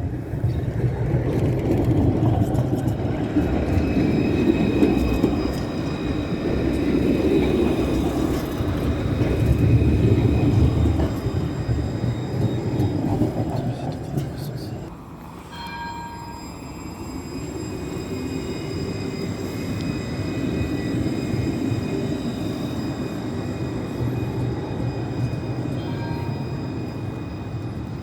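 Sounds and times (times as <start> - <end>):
tram wheels rumbling on rails: 0.0 - 28.0.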